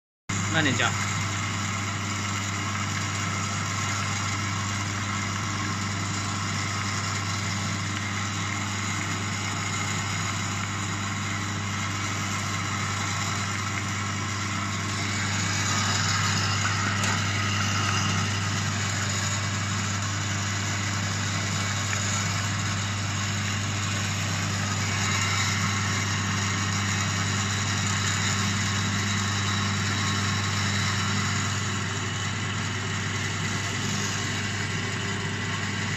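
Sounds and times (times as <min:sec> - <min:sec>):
electric motor hum: 0:00.3 - 0:35.9.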